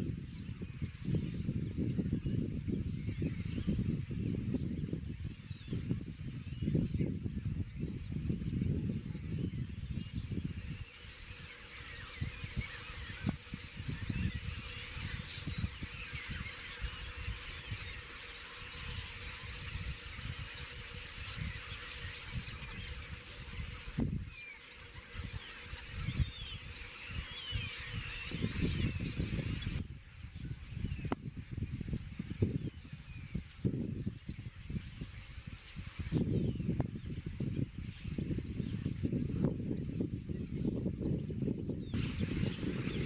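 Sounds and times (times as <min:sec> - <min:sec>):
starlings chattering: 0:00.0 - 0:43.0
wind gusting on microphone: 0:00.0 - 0:43.0.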